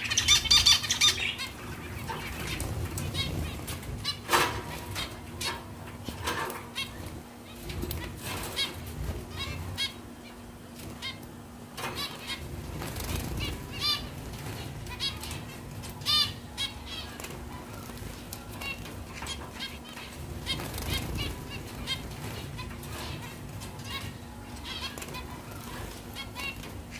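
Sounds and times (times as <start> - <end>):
finches beeping calls: 0.0 - 26.9
wings fluttering: 0.0 - 26.9.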